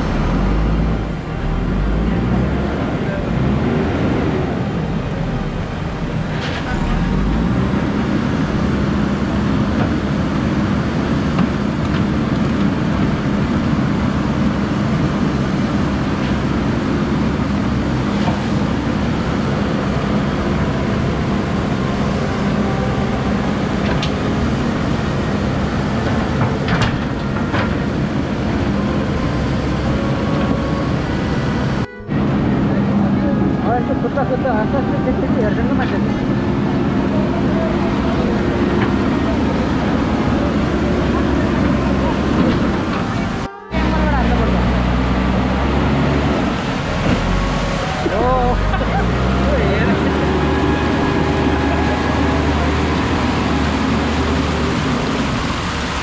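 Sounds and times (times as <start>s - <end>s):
diesel engine running: 0.0s - 56.0s
rain: 0.0s - 56.0s
rushing floodwater: 0.0s - 56.0s.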